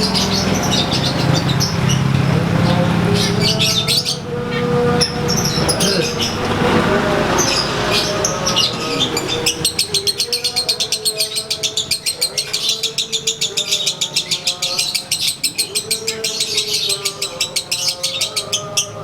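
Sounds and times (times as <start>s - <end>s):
lovebird rattling chatter: 0.0s - 19.0s.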